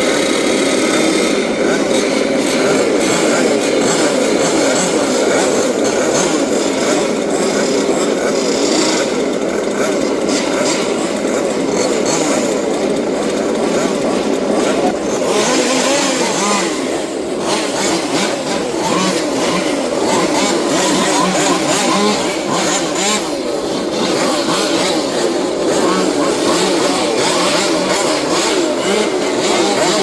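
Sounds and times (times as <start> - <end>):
small engines revving: 0.0 - 30.0.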